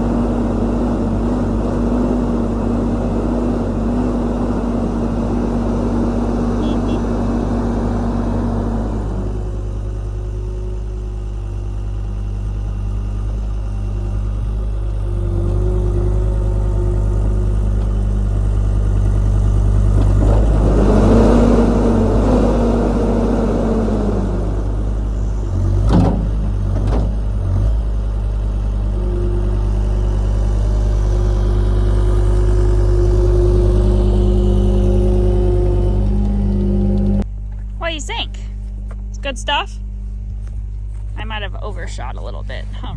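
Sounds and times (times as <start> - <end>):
vehicle engine running and revving: 0.0 - 39.1, 39.9 - 42.9.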